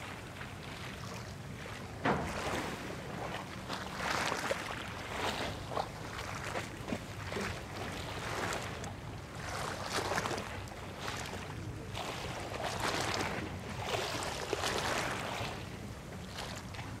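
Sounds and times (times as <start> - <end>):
low steady rumble: 0.0 - 17.0
water lapping: 0.0 - 17.0.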